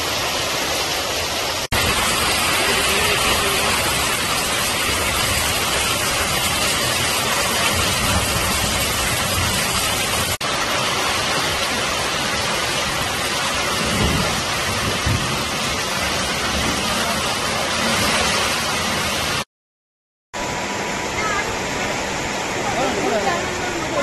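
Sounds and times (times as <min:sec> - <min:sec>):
heavy rain pouring: 0:00.0 - 0:19.5, 0:20.4 - 0:24.0.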